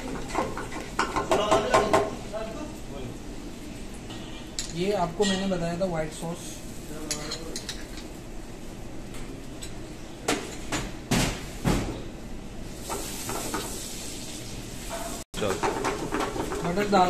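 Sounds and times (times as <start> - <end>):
gas burner noise: 0.0 - 17.0.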